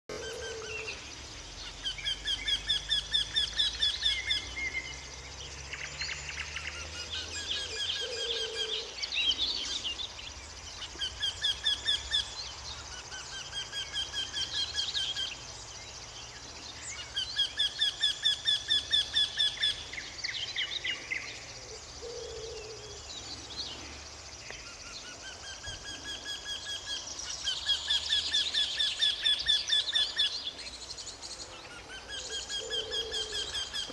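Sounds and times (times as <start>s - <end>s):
songbird chirps: 0.1s - 33.9s.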